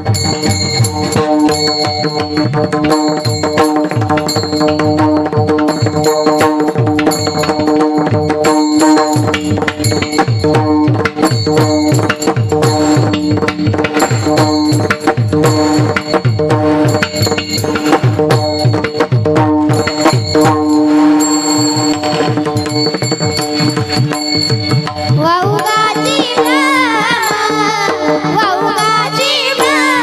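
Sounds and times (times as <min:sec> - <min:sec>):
fast tabla strokes: 0:00.0 - 0:30.0.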